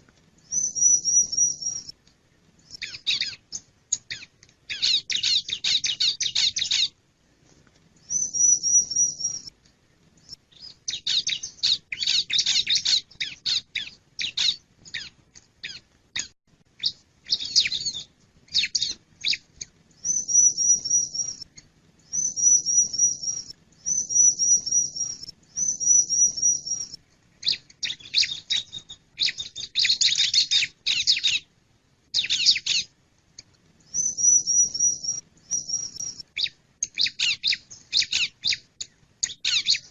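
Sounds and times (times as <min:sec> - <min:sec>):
bird chirping and trilling: 0:00.5 - 0:01.9, 0:02.6 - 0:07.0, 0:08.0 - 0:09.5, 0:10.5 - 0:31.5, 0:32.2 - 0:32.9, 0:33.9 - 0:39.9.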